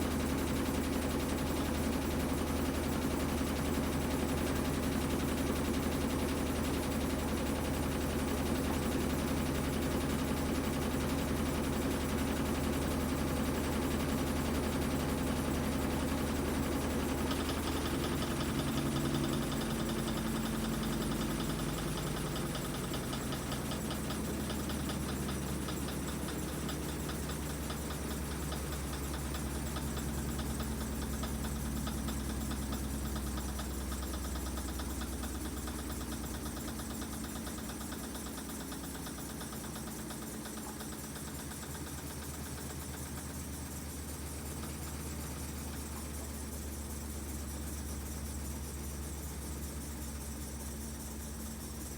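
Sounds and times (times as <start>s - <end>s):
washing machine spinning: 0.0s - 51.9s.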